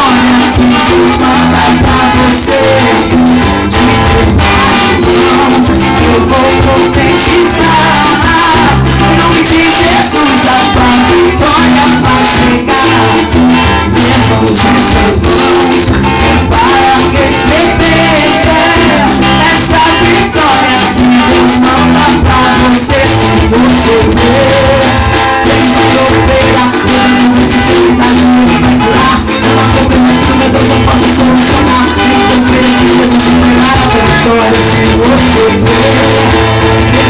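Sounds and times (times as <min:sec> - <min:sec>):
upbeat gospel band music: 0:00.0 - 0:37.0.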